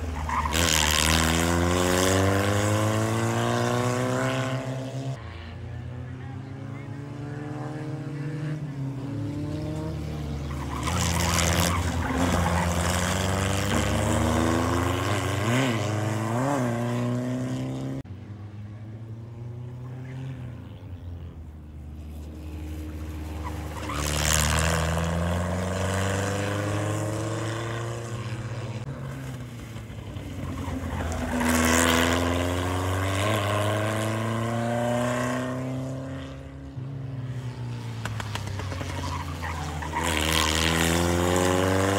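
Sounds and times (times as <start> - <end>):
race car engine revving: 0.0 - 5.2, 6.0 - 18.1, 22.5 - 29.0, 30.6 - 36.6, 37.5 - 41.9.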